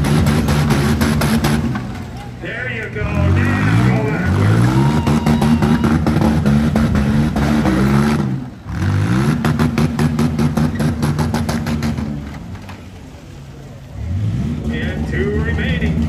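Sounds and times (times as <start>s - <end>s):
car engine revving hard: 0.0s - 1.9s, 3.0s - 12.3s, 13.9s - 16.0s.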